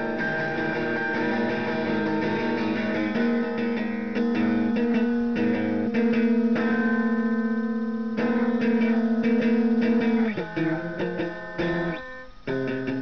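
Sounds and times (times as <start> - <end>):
electric guitar through amplifier: 0.0 - 13.0.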